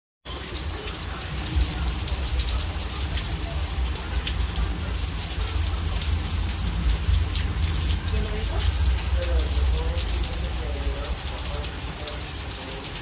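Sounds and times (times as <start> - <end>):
rain pattering: 0.2 - 13.0.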